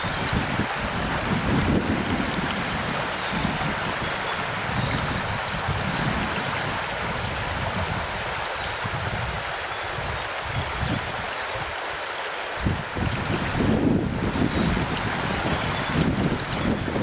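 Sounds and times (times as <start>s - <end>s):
wind buffeting microphone: 0.0s - 11.8s, 12.6s - 17.0s
river water running over rocks: 0.0s - 17.0s.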